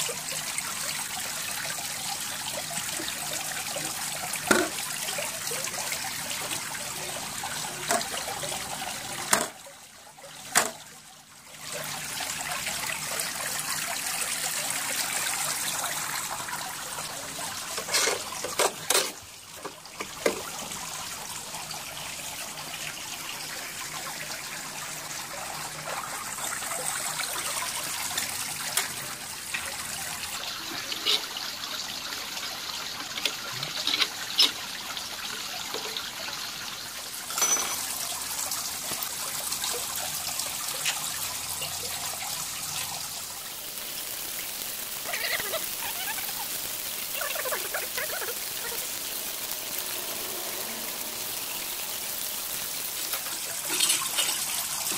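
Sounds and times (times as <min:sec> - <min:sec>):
water trickling into pond: 0:00.0 - 0:54.9.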